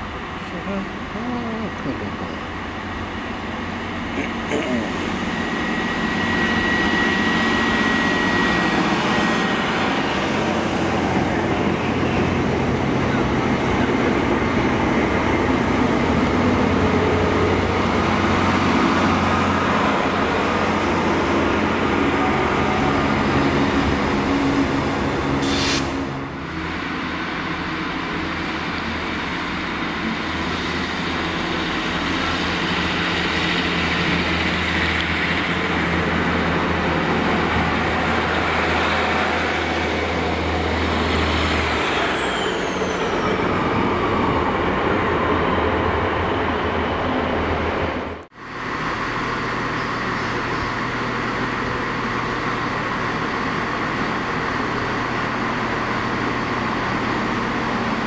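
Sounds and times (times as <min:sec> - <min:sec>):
train engines droning: 0:00.0 - 0:58.0.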